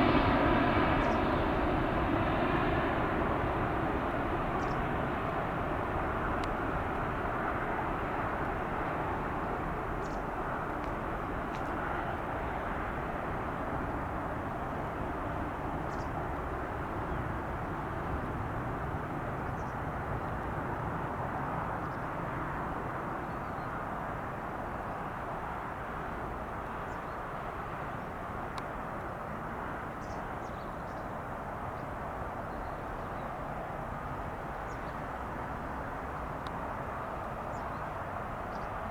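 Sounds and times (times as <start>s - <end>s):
distant jet engines rushing: 0.0s - 38.9s.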